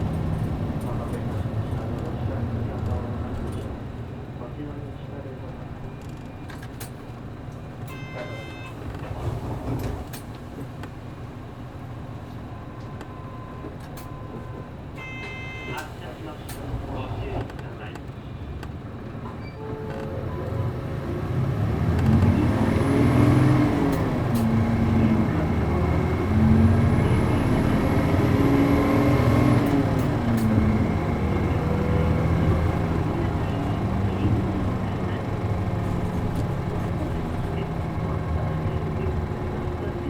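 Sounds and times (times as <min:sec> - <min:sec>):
bus diesel engine accelerating: 0:00.0 - 0:40.0.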